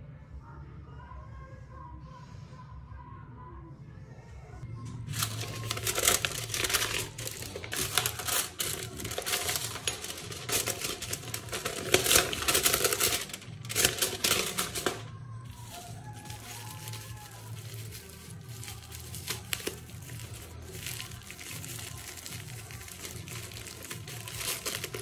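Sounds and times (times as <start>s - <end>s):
packaging crinkling and rustling: 5.0s - 25.0s.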